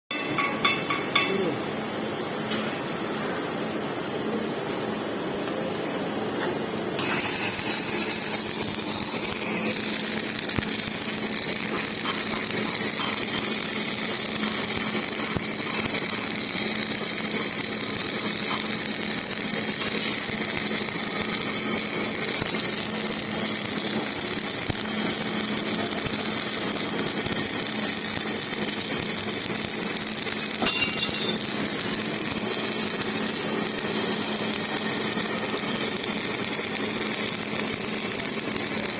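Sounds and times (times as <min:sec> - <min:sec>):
welding machine hum: 0:04.1 - 0:38.9
welding arc crackling hiss: 0:07.0 - 0:38.9.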